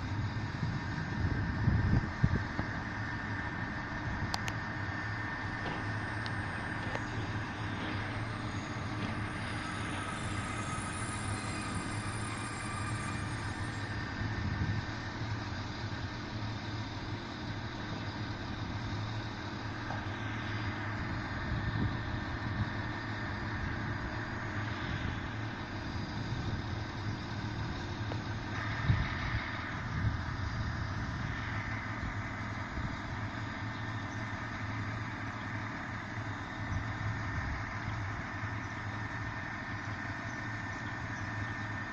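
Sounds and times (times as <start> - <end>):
engine idling with low hum: 0.0 - 41.9.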